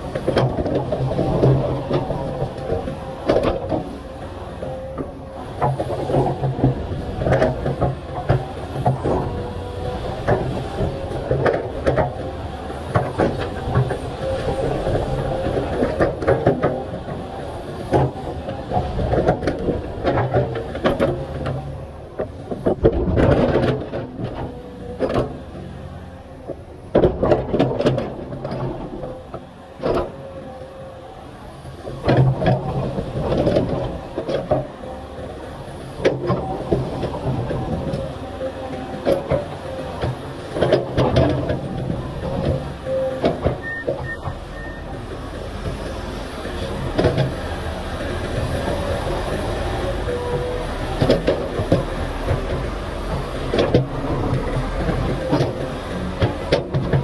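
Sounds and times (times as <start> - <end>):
excavator engine and hydraulics: 0.0 - 57.0.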